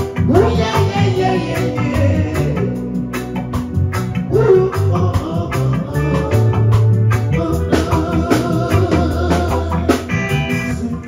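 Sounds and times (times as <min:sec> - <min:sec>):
bass line: 0:00.0 - 0:11.0
drums: 0:00.0 - 0:11.0
electric guitars: 0:00.0 - 0:11.0
keyboard: 0:00.0 - 0:11.0
man singing into microphone: 0:00.2 - 0:03.0, 0:04.3 - 0:11.0.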